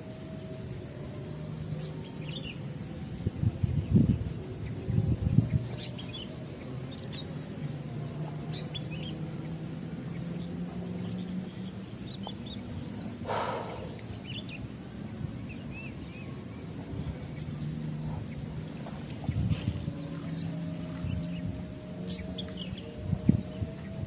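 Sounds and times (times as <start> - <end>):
steady low hum: 0.0 - 24.0
small birds chirping: 0.3 - 24.0.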